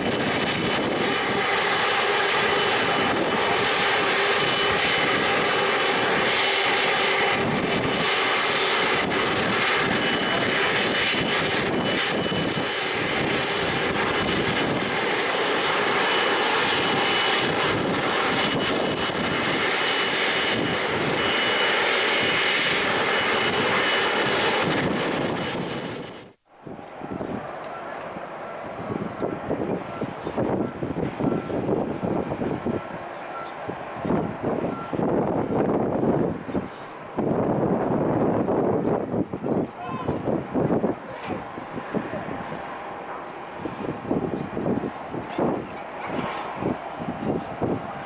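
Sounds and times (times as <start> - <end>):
high engine whine: 0.0 - 39.2, 40.1 - 48.0
airliner engines running: 0.0 - 48.0.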